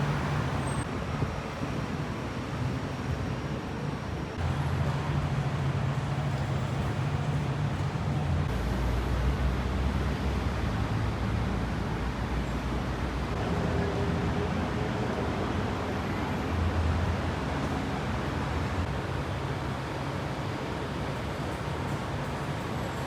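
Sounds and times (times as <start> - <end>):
road traffic engine rumble: 0.0 - 23.0.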